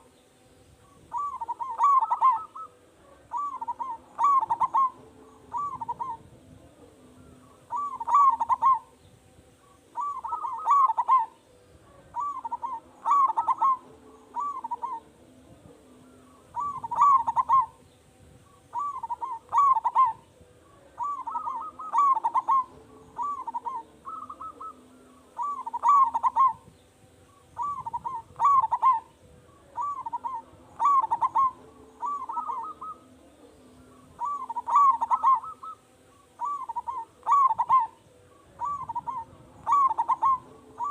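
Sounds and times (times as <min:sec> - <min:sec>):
dove cooing: 0:00.8 - 0:09.0, 0:09.6 - 0:17.9, 0:18.5 - 0:40.9.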